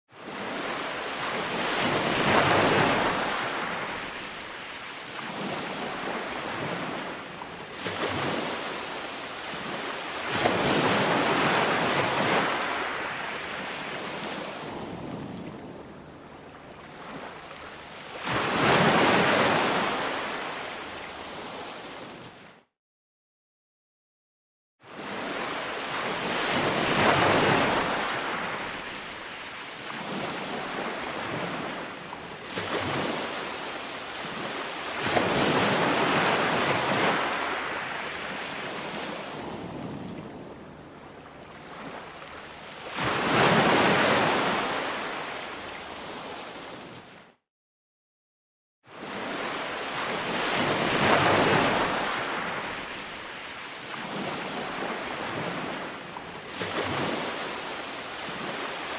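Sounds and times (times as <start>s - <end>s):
ocean surf breaking on shore: 0.2s - 15.9s, 24.9s - 46.9s, 48.9s - 58.9s.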